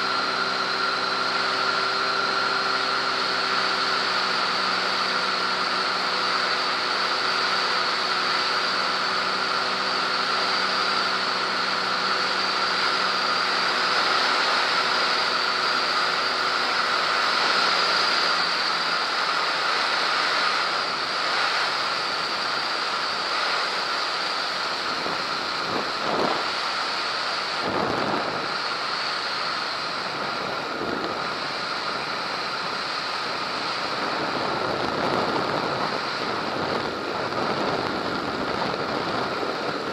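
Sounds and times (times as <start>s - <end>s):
airflow rushing over microphone: 0.0s - 39.9s
airplane engine drone: 0.0s - 39.9s.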